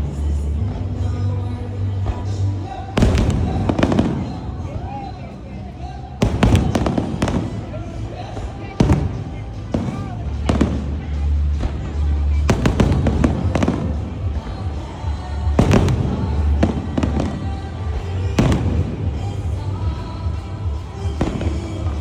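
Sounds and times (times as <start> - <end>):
music playing: 0.0 - 22.0
fireworks bangs: 0.5 - 22.0.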